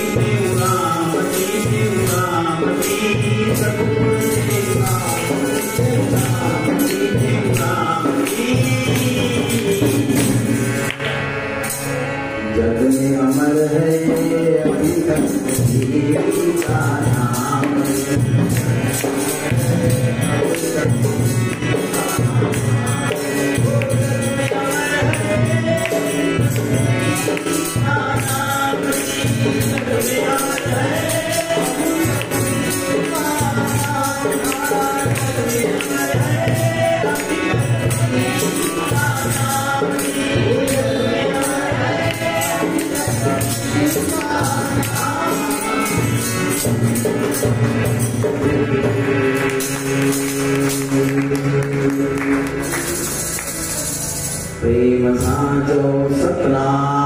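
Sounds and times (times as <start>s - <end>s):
jingling percussion: 0.0s - 55.5s
harmonium: 0.0s - 57.0s
man singing devotional song: 0.0s - 57.0s.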